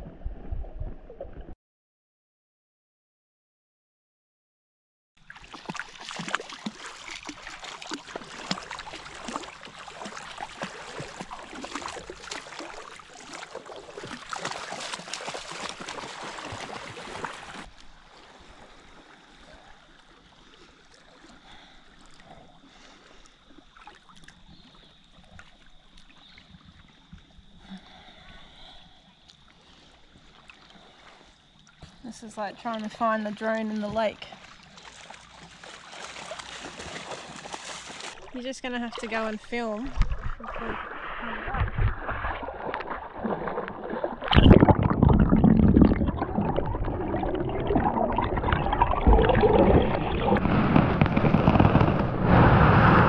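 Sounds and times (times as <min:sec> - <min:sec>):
water splashing and sloshing: 0:00.0 - 0:01.6, 0:05.2 - 0:53.0.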